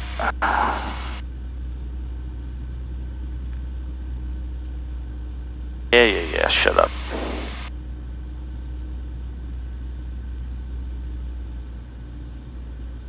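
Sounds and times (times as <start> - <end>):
airplane engine and propeller drone: 0.0 - 13.0
faint steady tones: 0.0 - 13.0.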